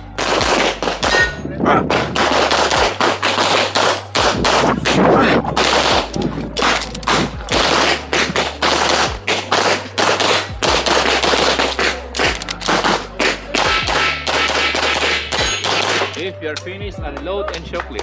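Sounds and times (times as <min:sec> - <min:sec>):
rapid pistol fire: 0:00.1 - 0:01.3, 0:01.9 - 0:05.0, 0:05.6 - 0:16.2.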